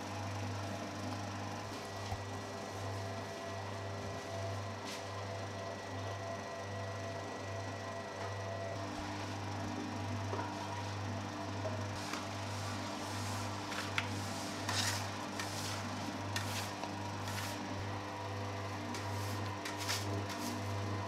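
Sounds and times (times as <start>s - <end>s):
dough mixer motor hum: 0.0s - 21.0s.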